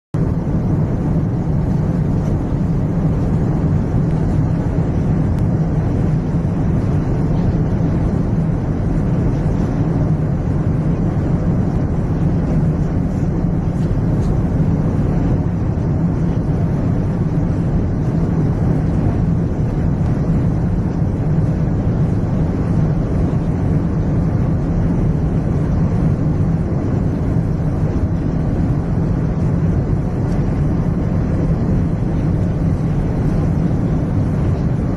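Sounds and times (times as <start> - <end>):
airplane cabin engine rumble: 0.1 - 34.9
air rushing outside cabin: 0.2 - 34.9.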